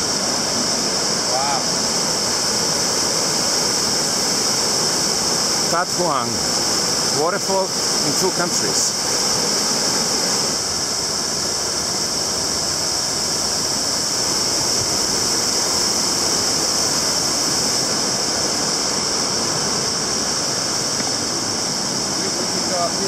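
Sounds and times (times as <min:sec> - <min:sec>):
high-pitched hiss: 0:00.0 - 0:23.0
waterfall roaring over rock: 0:00.0 - 0:23.0.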